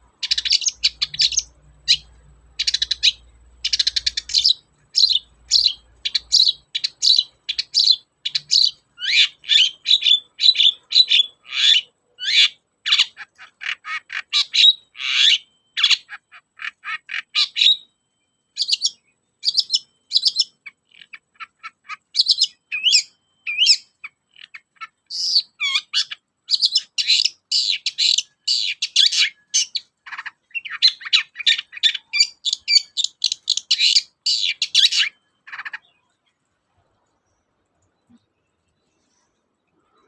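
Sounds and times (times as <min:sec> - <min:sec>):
shrike chattering song: 0:00.0 - 0:17.9, 0:18.6 - 0:36.1.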